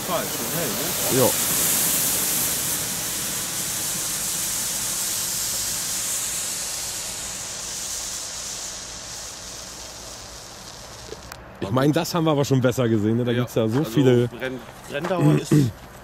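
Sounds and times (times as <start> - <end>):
flare burning with hiss: 0.0 - 16.0.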